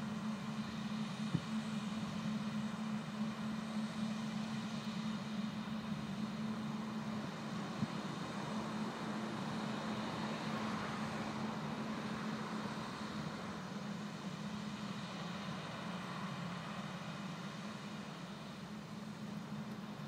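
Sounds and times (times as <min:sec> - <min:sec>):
tractor engine and fans droning: 0:00.0 - 0:20.0.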